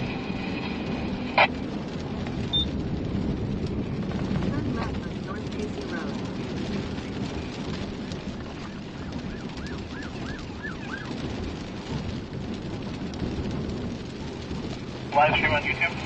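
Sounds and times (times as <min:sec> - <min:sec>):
heavy rain on car: 0:00.0 - 0:16.0
tyre noise on wet road: 0:00.0 - 0:16.0.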